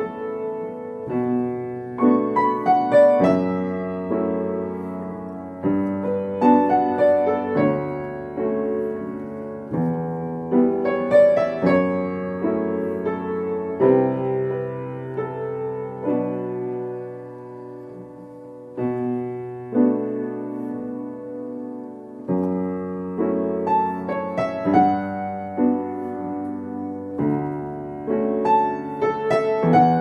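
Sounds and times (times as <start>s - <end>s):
slow piano piece: 0.0s - 30.0s.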